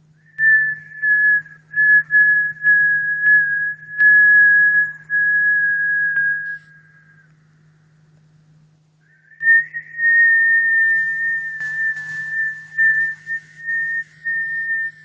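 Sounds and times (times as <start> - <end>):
high whistled tone: 0.2 - 7.3, 9.1 - 15.0.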